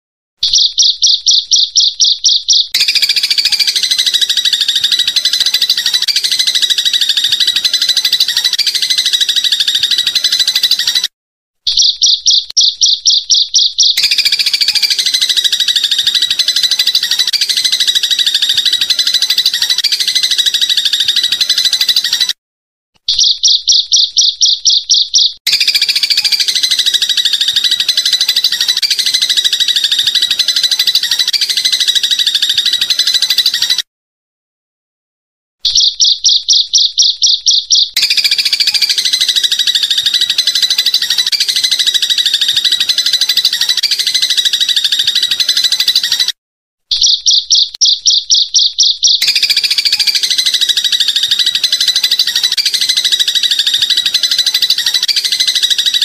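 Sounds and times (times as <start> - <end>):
rapid high-pitched chirping: 0.4 - 22.4, 23.0 - 33.9, 35.6 - 56.0.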